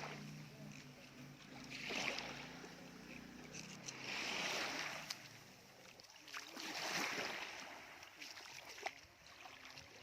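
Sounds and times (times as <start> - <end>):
small waves washing on sand: 1.4 - 10.0.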